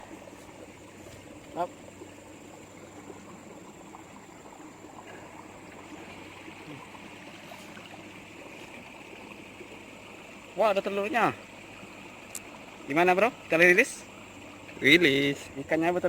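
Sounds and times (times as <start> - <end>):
running water hiss: 0.0 - 16.0.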